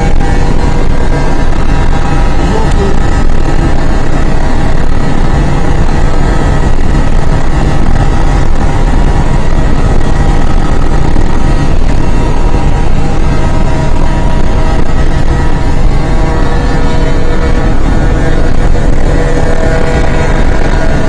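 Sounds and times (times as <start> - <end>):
car engine drone: 0.0 - 21.0
wind and road rumble: 0.0 - 21.0.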